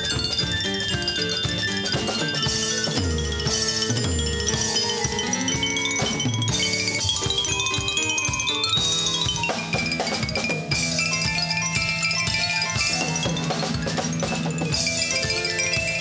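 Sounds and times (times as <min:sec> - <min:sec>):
live band with drums and keyboards: 0:00.0 - 0:16.0
xylophone fast runs: 0:00.0 - 0:16.0.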